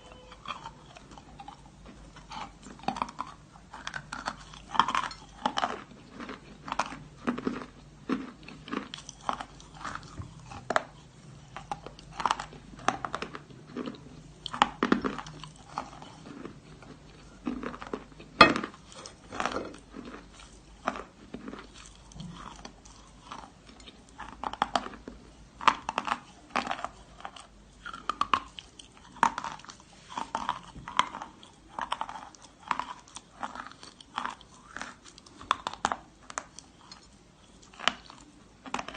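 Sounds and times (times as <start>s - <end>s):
chalk crunching while chewed: 0.3s - 38.9s.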